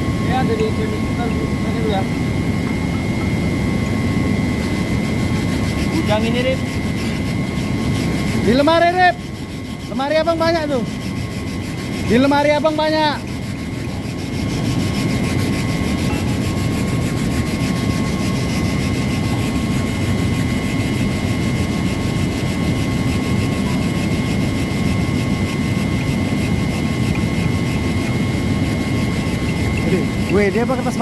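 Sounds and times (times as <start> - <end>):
machinery hum and rumble: 0.0 - 31.0
steady high whine: 0.0 - 31.0.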